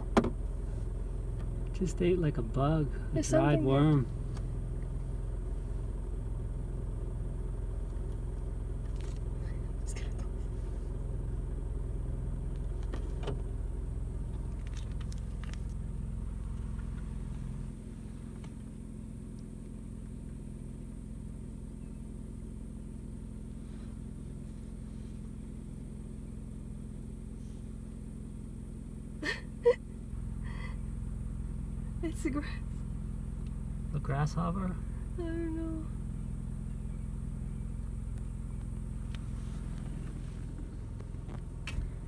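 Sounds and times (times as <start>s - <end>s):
car engine rumble from inside: 0.0s - 42.0s.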